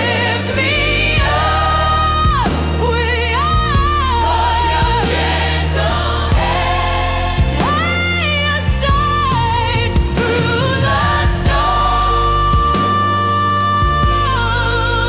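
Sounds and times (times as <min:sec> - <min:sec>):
steady beat: 0:00.0 - 0:13.2
person singing with vibrato: 0:00.0 - 0:15.0
sustained low bass: 0:00.0 - 0:15.0.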